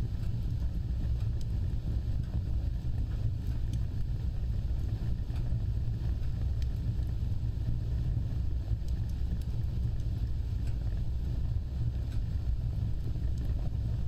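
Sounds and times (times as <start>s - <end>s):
fire burning with low roar: 0.0s - 14.0s
fire crackles: 0.0s - 14.0s.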